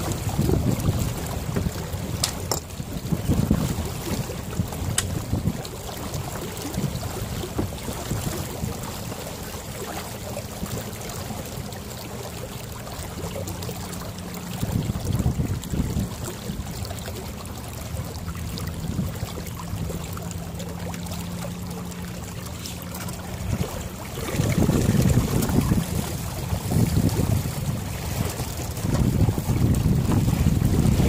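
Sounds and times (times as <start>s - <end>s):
wind buffeting microphone: 0.0s - 10.8s, 13.3s - 31.0s
water washing along hull: 0.0s - 31.0s.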